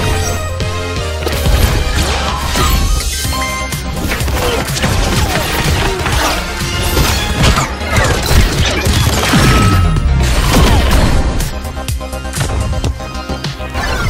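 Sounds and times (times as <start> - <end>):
loud music: 0.0 - 14.0.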